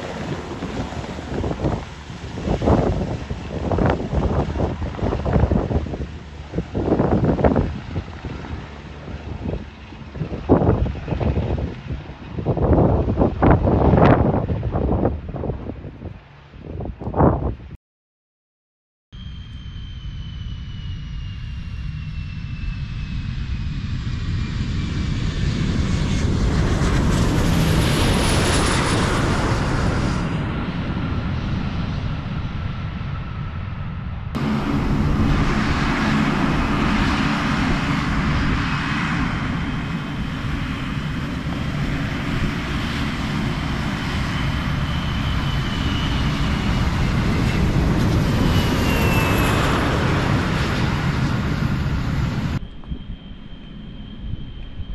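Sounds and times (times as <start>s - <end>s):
jet engines roaring: 0.0s - 17.5s, 19.2s - 54.9s.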